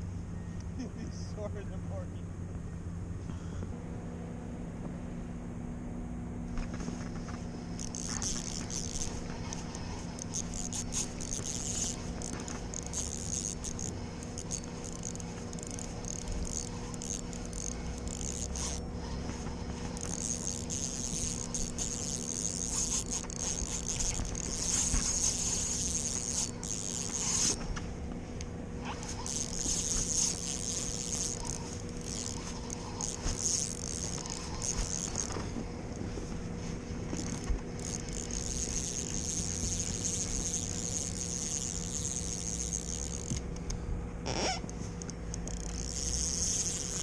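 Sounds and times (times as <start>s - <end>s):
low hum: 0.0s - 47.0s
fishing reel ticking and buzzing: 6.5s - 47.0s.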